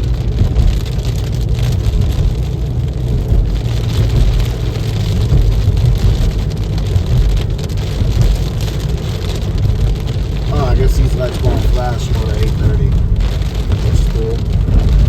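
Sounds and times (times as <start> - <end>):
car road and engine noise: 0.0 - 15.0
rain hitting a car: 0.0 - 15.0.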